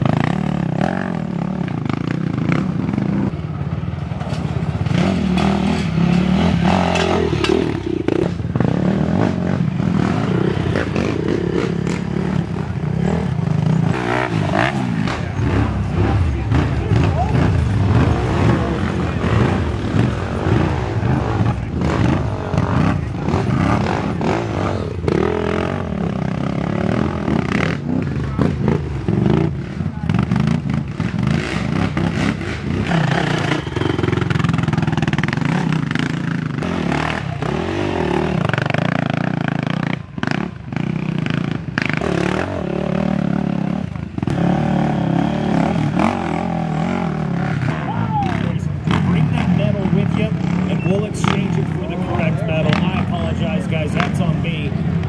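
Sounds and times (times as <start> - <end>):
quad engines revving: 0.0 - 55.0.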